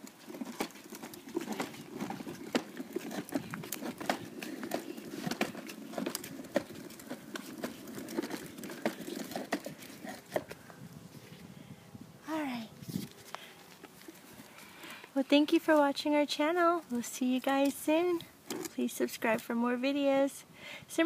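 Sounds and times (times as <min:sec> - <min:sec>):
plastic wheels rolling on concrete: 0:00.0 - 0:11.5, 0:12.8 - 0:19.5.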